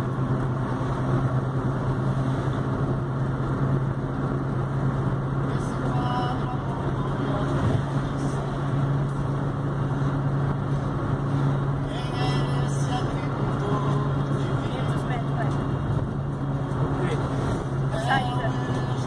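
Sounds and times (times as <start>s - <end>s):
car engine and tyre drone: 0.0s - 19.0s.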